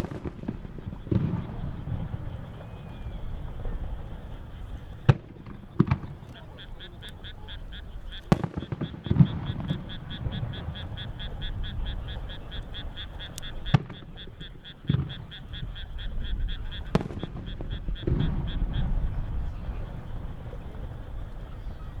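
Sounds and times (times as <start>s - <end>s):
firework booms: 0.0s - 22.0s
firework cracks: 0.0s - 22.0s
frog croaking: 0.0s - 22.0s.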